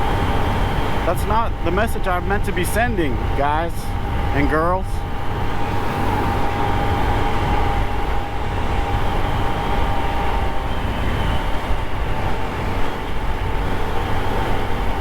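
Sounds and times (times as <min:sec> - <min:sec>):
motorcycle engine cruising: 0:00.0 - 0:15.0
road and air rush: 0:00.0 - 0:15.0.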